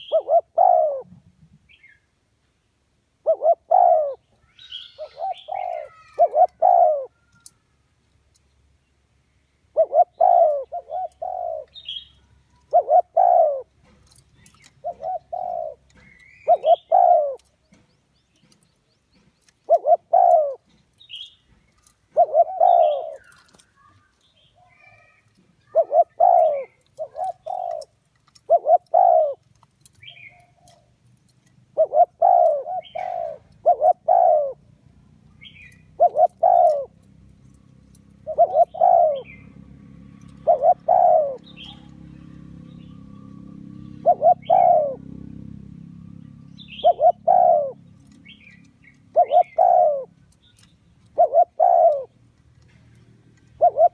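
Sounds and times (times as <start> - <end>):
dove cooing: 0.0 - 1.4, 3.2 - 7.7, 9.6 - 53.9.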